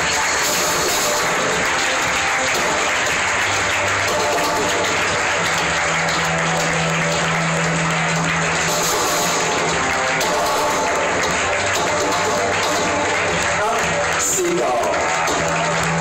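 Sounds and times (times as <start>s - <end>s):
audience applauding: 0.0s - 16.0s
runway music with low bass: 0.0s - 16.0s.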